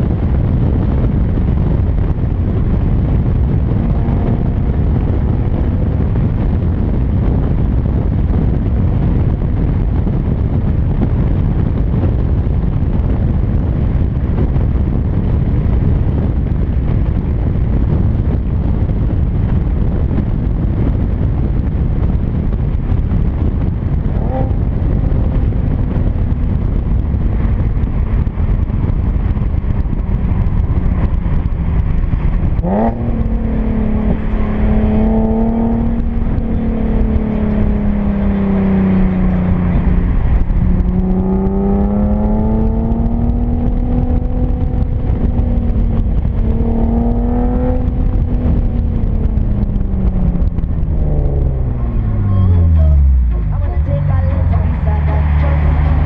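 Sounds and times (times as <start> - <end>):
car exhaust revving: 0.0 - 56.0
heavy wind: 0.0 - 56.0
road rumble: 0.0 - 56.0.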